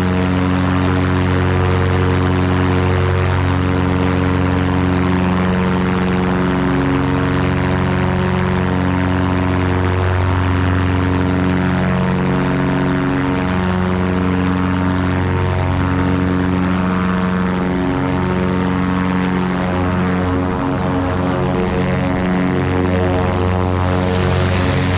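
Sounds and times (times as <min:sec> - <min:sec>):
airplane engines droning: 0:00.0 - 0:24.9.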